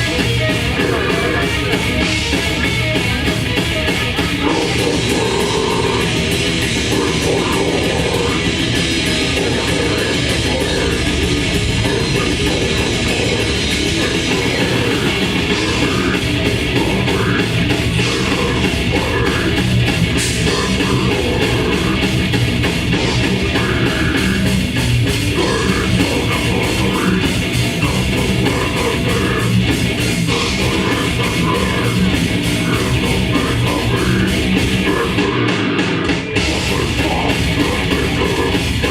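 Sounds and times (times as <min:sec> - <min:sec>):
person singing: 0:00.0 - 0:03.0, 0:03.8 - 0:38.9
distorted guitars: 0:00.0 - 0:38.9
drums: 0:00.0 - 0:38.9.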